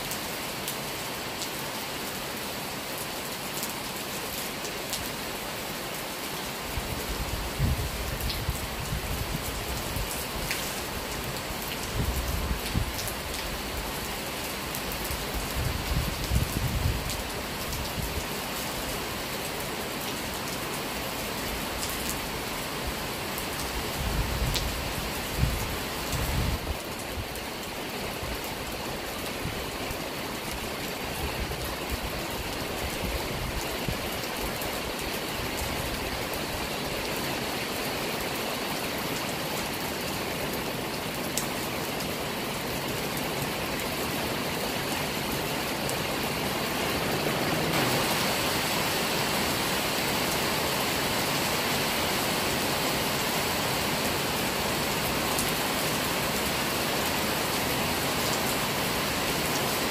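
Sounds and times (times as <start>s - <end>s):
rain falling on trees: 0.0s - 59.9s.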